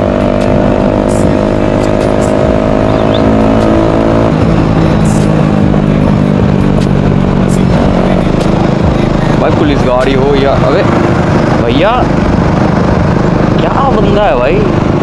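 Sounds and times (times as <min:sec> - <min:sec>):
motorcycle engine with loud exhaust: 0:00.0 - 0:15.0.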